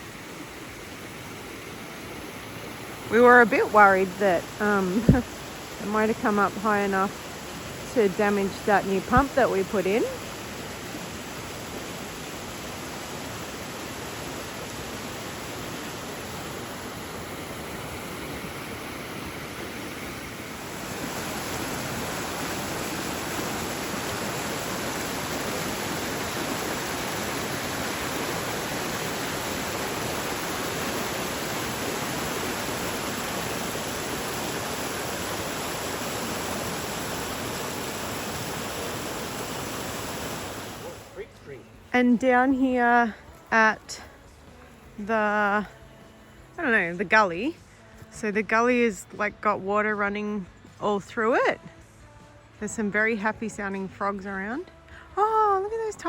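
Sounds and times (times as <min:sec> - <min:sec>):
creek water rushing: 0:00.0 - 0:45.0.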